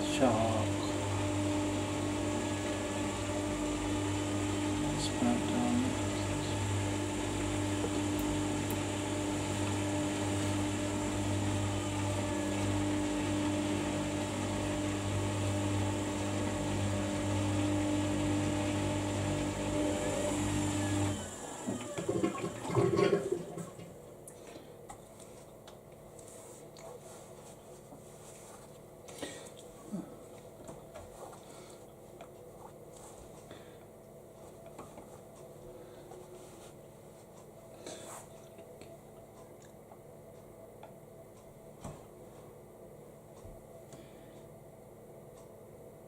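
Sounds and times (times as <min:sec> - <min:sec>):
washing machine motor hum: 0:00.0 - 0:46.0.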